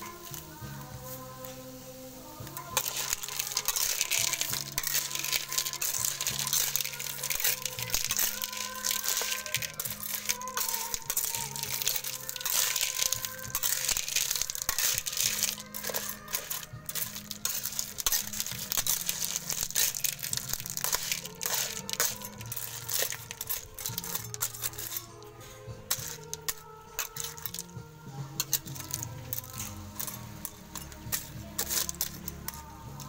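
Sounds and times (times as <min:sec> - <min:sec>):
clam shells clattering in a wok: 0:00.0 - 0:00.9, 0:02.4 - 0:33.0
metal spatula scraping a wok: 0:00.0 - 0:33.0.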